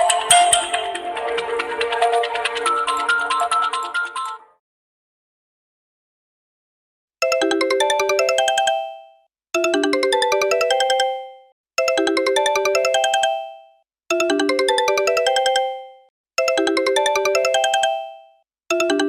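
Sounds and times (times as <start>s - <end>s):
electronic phone ringtone melody: 0.0s - 4.5s, 7.2s - 19.0s.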